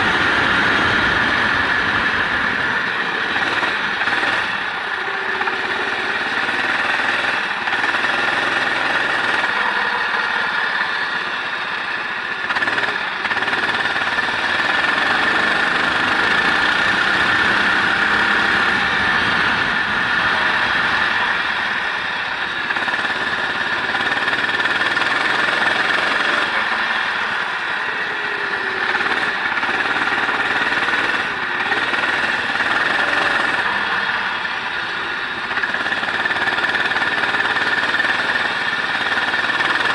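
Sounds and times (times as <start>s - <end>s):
racing car engine running hard: 0.0s - 39.9s.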